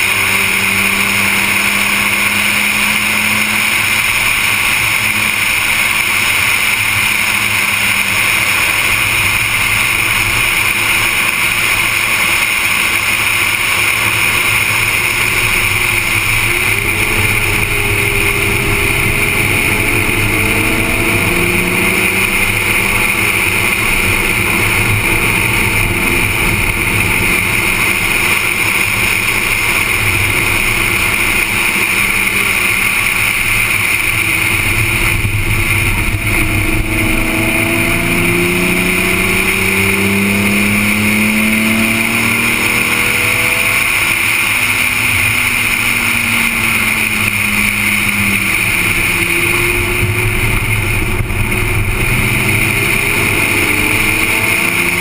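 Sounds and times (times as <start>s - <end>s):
car engine revving through gears: 0.0s - 55.0s
loud wind rush: 2.1s - 55.0s.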